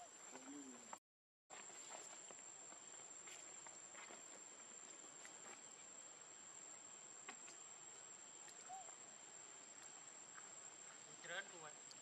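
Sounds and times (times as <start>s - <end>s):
high-pitched insect trill: 1.6s - 12.0s.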